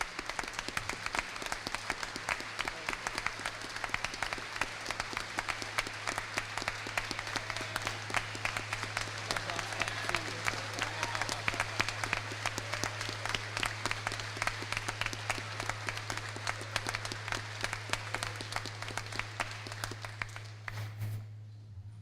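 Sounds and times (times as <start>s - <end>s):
audience applauding: 0.0s - 20.8s
low electrical hum: 0.0s - 22.0s.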